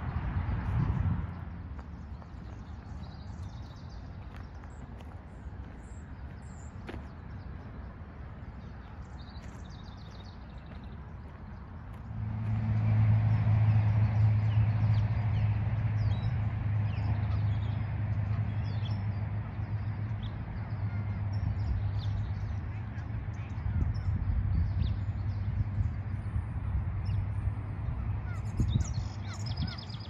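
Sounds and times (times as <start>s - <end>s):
small birds chirping: 1.0s - 12.1s, 14.2s - 30.0s.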